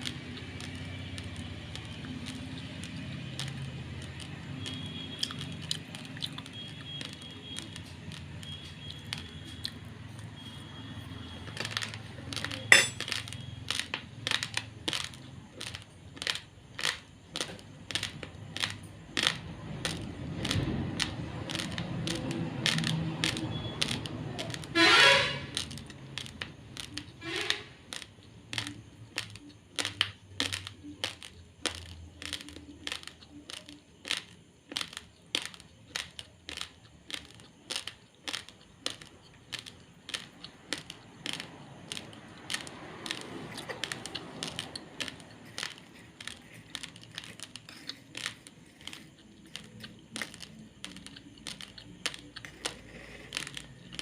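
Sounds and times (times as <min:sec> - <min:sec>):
raw rice grains being chewed: 0:00.0 - 0:54.0.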